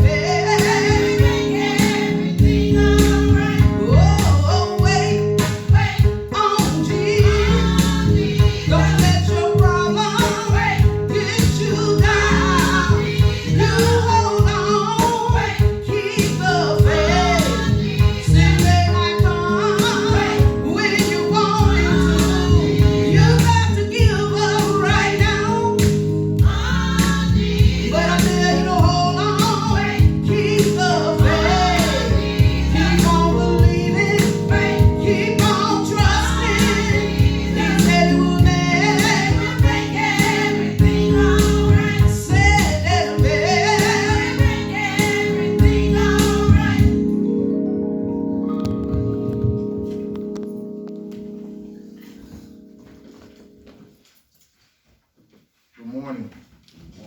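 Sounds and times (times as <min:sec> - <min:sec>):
gospel song with band: 0:00.0 - 0:53.8.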